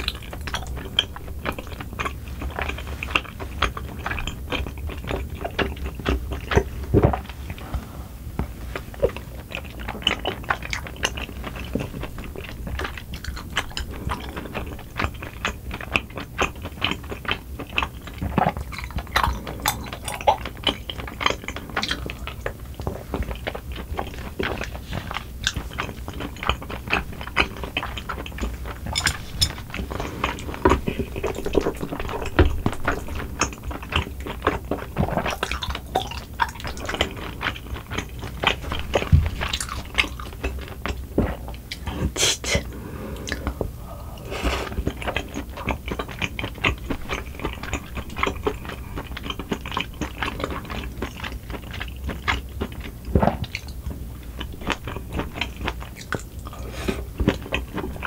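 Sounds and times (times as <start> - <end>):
close chewing: 0.0 - 58.0.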